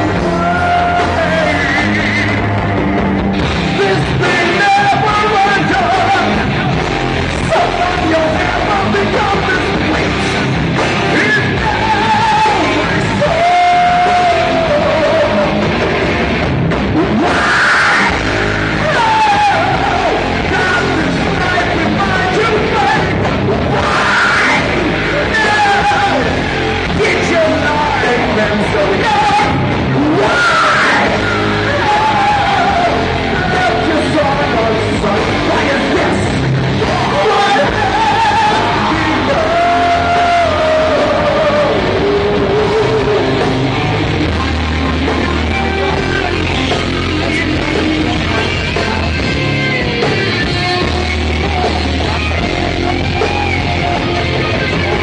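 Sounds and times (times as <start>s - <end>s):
live rock band playing: 0.0s - 55.0s
sung lead vocal: 0.0s - 55.0s.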